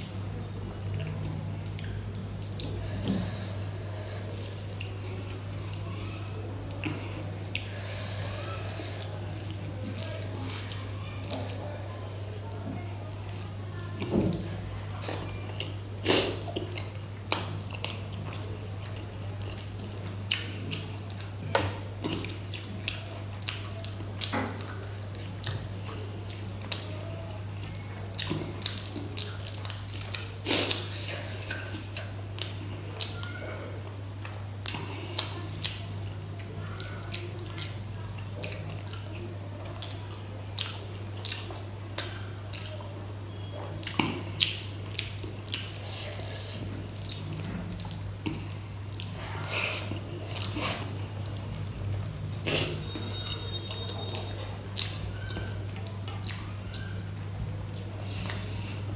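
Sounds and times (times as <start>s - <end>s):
wet squelches of eating by hand: 0.0s - 58.9s.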